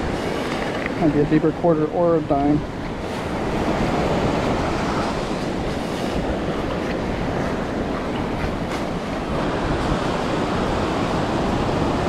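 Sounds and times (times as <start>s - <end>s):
ocean surf washing on sand: 0.0s - 12.0s.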